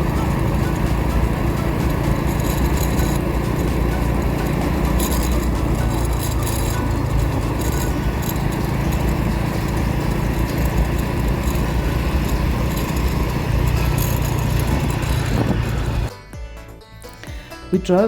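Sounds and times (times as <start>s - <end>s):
road noise: 0.0s - 16.1s
scooter engine running: 0.0s - 16.1s
wind buffeting microphone: 0.0s - 16.1s.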